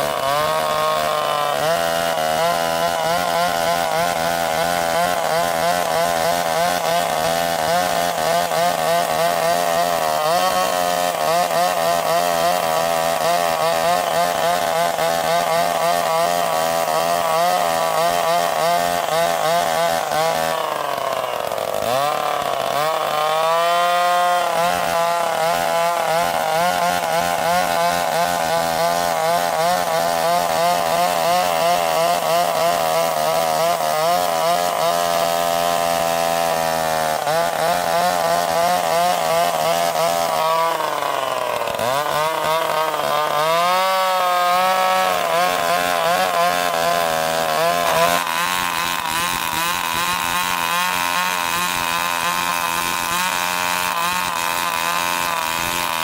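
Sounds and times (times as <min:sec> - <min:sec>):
chainsaw engine running: 0:00.0 - 0:56.0.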